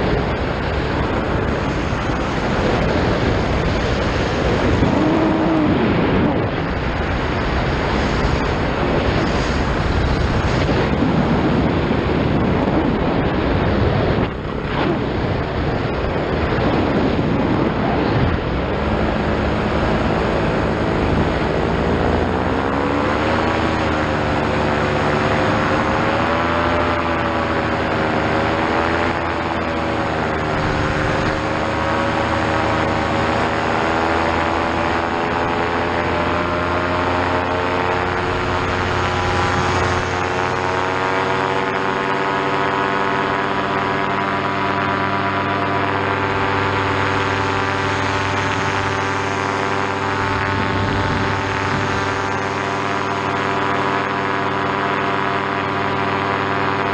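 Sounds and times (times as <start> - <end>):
paramotor engine and propeller: 0.0 - 56.9.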